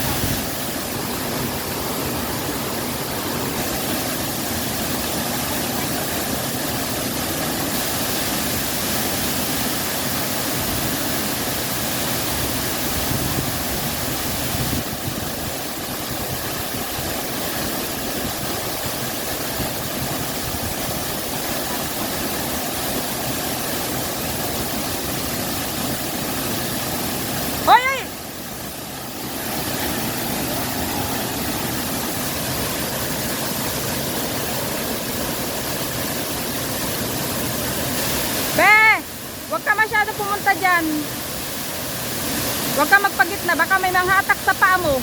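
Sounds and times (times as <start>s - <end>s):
waterfall roaring into a pool: 0.0s - 45.0s.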